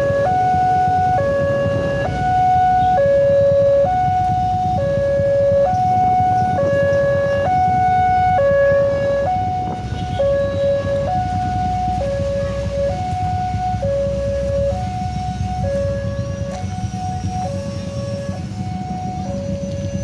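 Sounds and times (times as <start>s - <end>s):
motorbike traffic rumble: 0.0s - 20.0s
two-tone crossing alarm: 0.0s - 20.0s.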